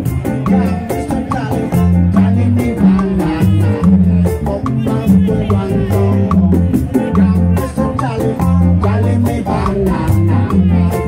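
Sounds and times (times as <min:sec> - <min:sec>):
calypso band playing: 0:00.0 - 0:11.0
congas struck by hand: 0:00.0 - 0:11.0.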